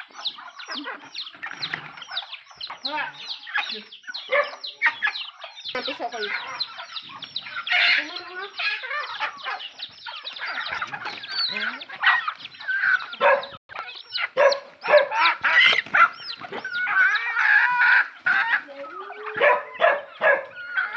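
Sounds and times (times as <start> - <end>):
chickens clucking: 0.0 - 20.9
chicks peeping: 0.0 - 20.9.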